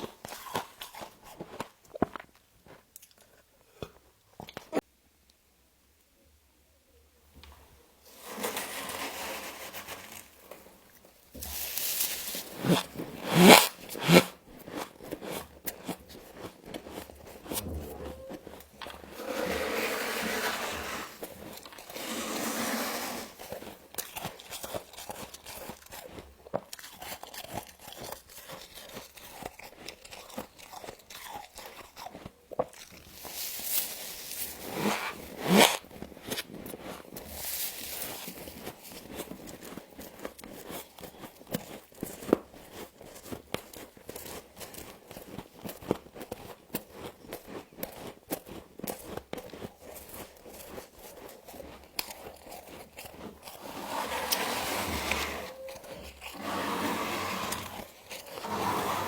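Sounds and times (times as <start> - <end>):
crunching and chewing ice: 0.0 - 4.8, 9.2 - 59.0.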